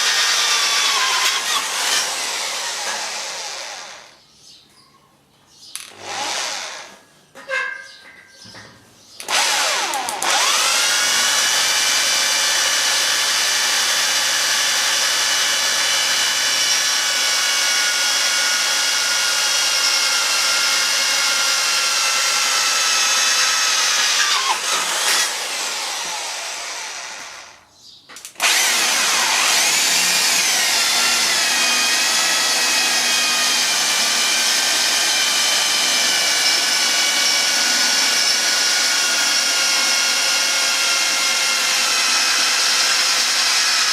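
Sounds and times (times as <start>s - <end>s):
electric drill drilling metal: 0.0s - 4.2s, 5.8s - 7.0s, 9.2s - 27.6s, 28.4s - 43.9s.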